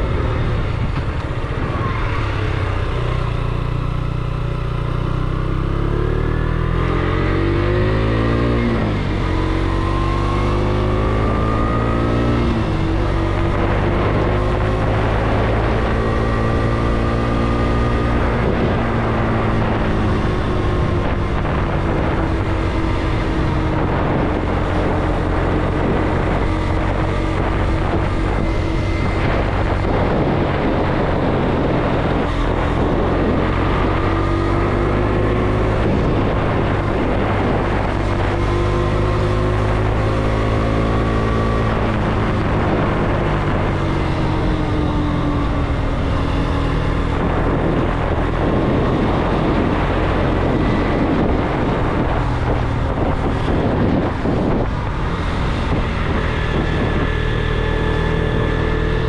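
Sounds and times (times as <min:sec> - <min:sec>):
motorcycle engine revving: 0:00.0 - 0:59.0
wind rushing over microphone: 0:00.0 - 0:59.0.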